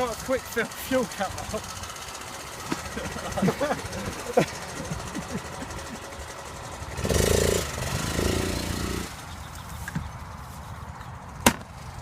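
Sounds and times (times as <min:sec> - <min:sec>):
motorbike engine revving: 0:00.0 - 0:10.4.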